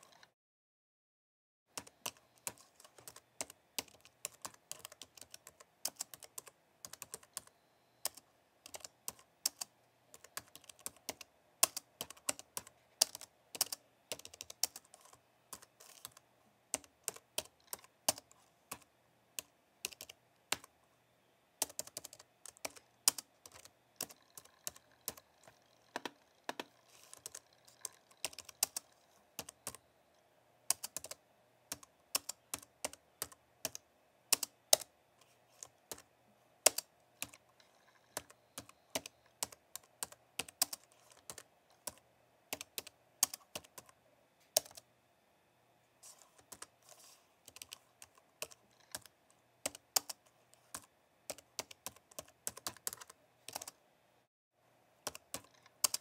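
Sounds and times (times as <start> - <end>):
keyboard typing: 0.0 - 0.3, 1.7 - 20.7, 21.6 - 29.9, 30.7 - 44.8, 46.0 - 53.8, 55.0 - 56.0.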